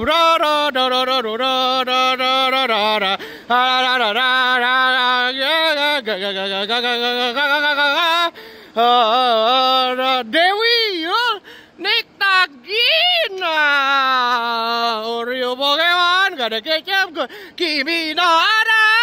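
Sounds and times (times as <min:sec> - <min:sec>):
person singing wordless chant: 0:00.0 - 0:19.0.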